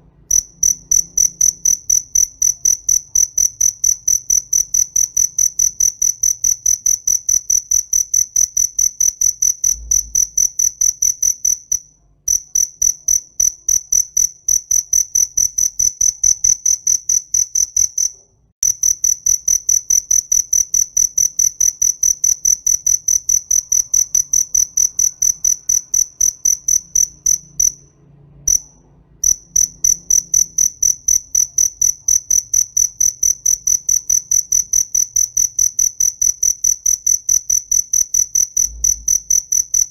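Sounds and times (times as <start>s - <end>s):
cricket chirping: 0.1s - 39.9s.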